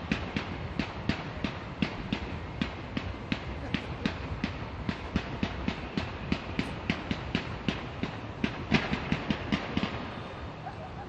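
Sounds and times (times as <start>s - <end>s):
fireworks popping: 0.0s - 10.8s.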